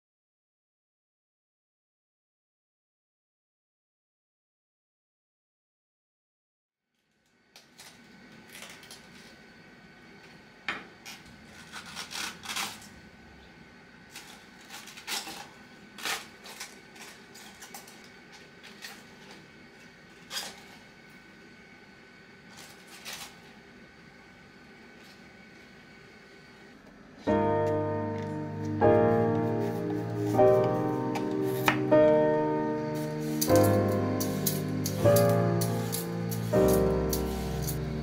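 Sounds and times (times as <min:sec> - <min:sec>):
steady background hum: 0:07.2 - 0:38.0.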